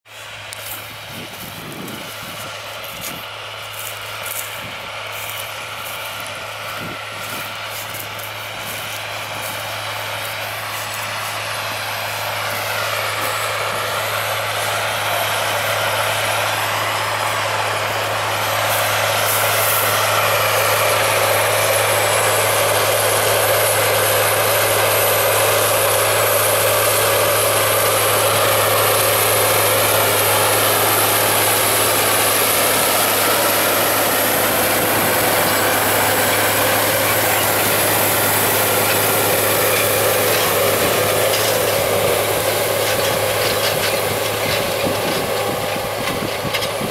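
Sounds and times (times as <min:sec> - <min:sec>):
cultivator working soil: 0:00.0 - 0:46.9
tractor diesel engine under load: 0:00.0 - 0:46.9.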